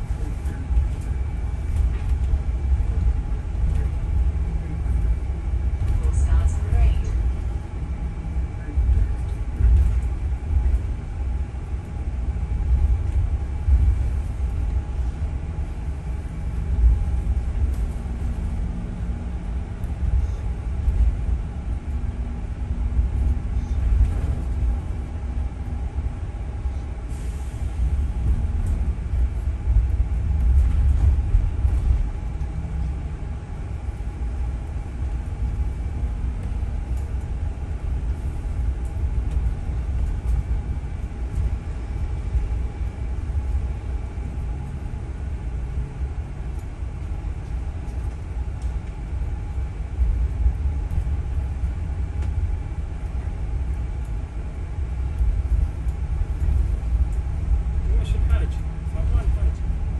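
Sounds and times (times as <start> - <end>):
bus driving rumble: 0.0 - 59.9
faint steady hum: 0.0 - 59.9.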